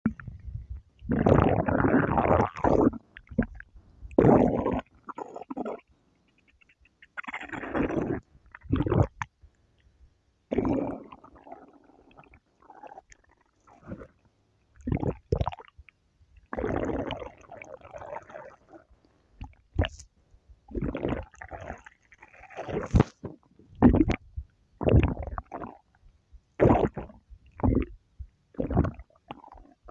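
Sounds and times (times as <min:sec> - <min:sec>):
stomach growling: 0:00.0 - 0:09.3, 0:10.5 - 0:15.8, 0:16.4 - 0:20.1, 0:20.7 - 0:26.0, 0:26.6 - 0:29.9.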